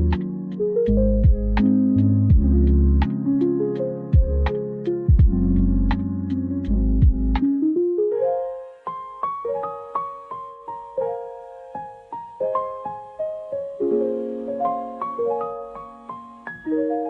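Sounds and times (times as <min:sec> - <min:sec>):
soft electric piano melody: 0:00.0 - 0:17.0.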